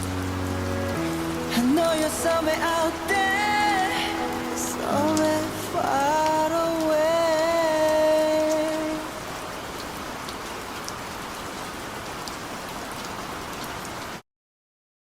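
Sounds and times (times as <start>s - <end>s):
steady rain falling: 0.0s - 14.2s.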